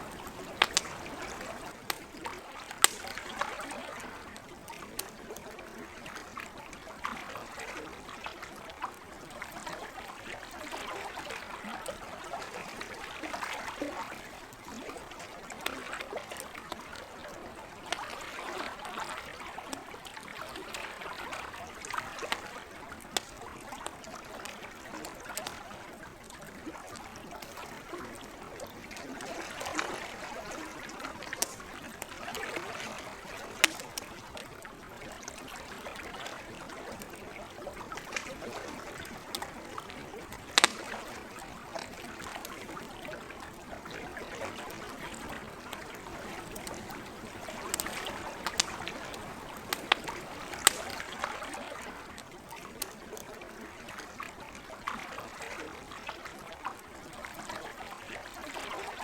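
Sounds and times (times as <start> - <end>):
campfire crackling and popping: 0.0 - 54.2
lake water lapping: 0.0 - 59.0.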